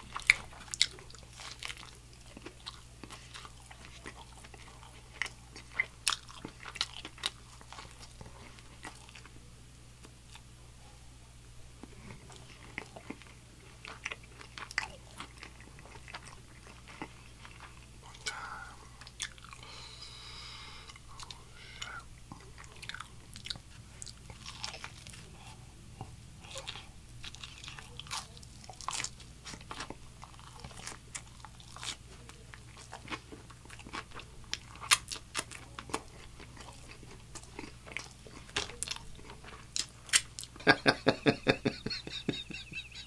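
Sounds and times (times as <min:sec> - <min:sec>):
biting and crunching food: 0:00.0 - 0:10.5, 0:11.8 - 0:19.9, 0:20.8 - 0:43.0.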